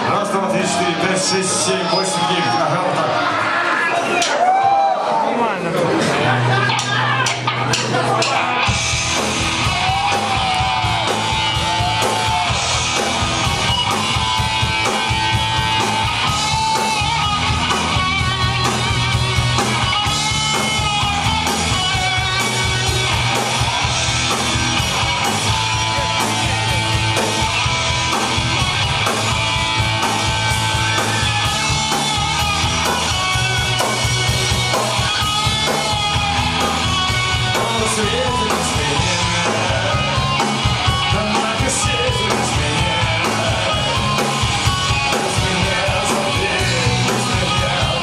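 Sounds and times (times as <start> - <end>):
punk rock band playing live: 5.8 - 48.0.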